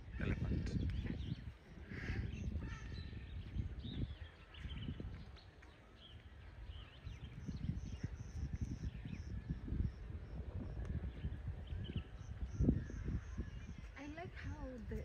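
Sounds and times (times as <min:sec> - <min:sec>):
birds chirping and whistling: 0:00.2 - 0:14.8.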